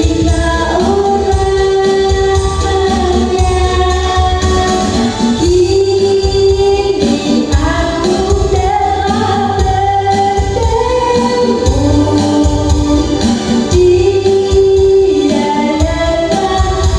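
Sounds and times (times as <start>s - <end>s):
heavy pulsing bass beat: 0.0s - 15.2s.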